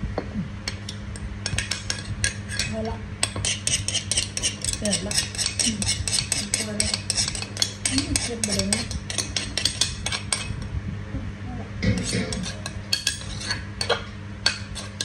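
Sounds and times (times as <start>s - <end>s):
metal spoon scraping stone mortar: 1.4s - 10.6s, 11.8s - 15.0s.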